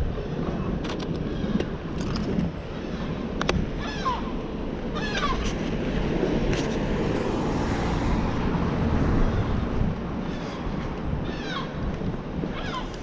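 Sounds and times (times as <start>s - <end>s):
car driving along road: 0.8s - 13.0s.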